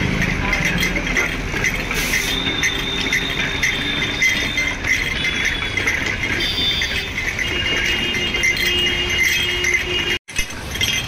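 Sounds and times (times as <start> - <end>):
juice press rollers clattering: 0.0 - 11.0.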